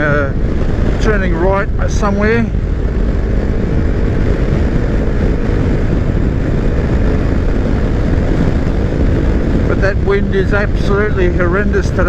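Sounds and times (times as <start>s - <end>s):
heavy wind noise on microphone: 0.0s - 12.0s
motorcycle engine running: 0.0s - 12.0s.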